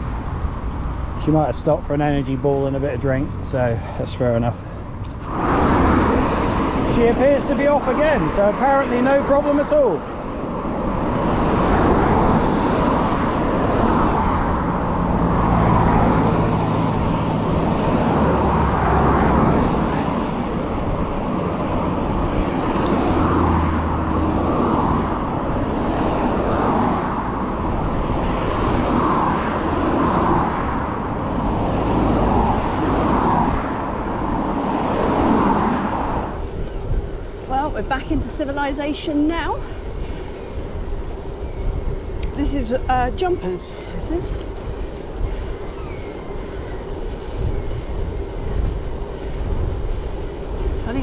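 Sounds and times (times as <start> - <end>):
road noise while cycling: 0.0 - 51.0
vehicle engine hum passing: 0.0 - 51.0
wind rushing: 3.3 - 51.0.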